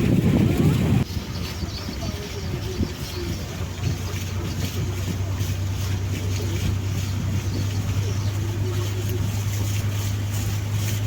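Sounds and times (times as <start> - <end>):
boat engine humming: 0.0 - 11.0
water noise: 0.0 - 11.0
wind noise: 0.0 - 11.0.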